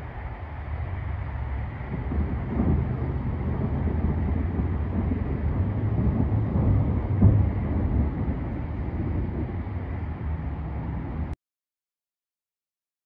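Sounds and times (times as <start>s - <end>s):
gusty wind on microphone: 0.0s - 11.4s.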